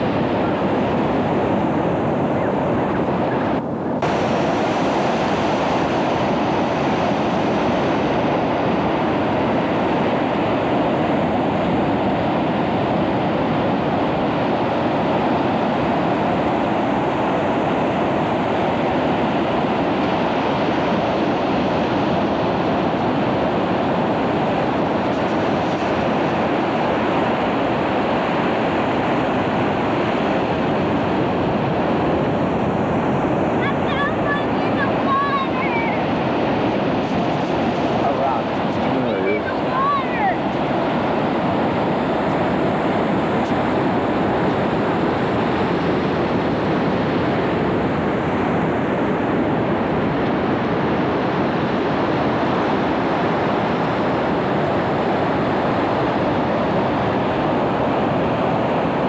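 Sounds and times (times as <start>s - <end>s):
surf breaking on a beach: 0.0s - 59.0s.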